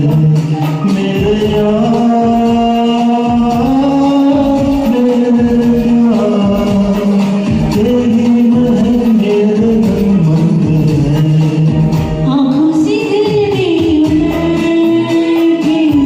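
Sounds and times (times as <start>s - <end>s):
steady percussion beat: 0.0s - 16.0s.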